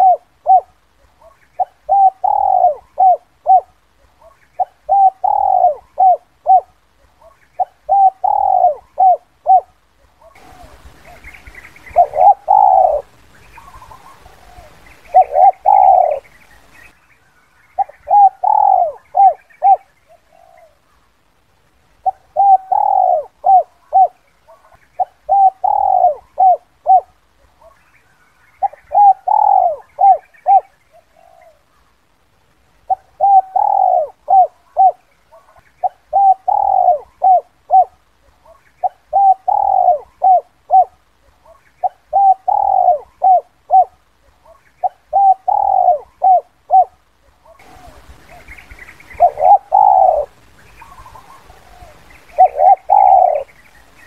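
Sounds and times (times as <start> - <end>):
dove cooing: 0.0 - 16.7, 17.7 - 21.0, 22.0 - 27.8, 28.6 - 31.9, 32.8 - 54.0
faint hiss: 0.0 - 54.0.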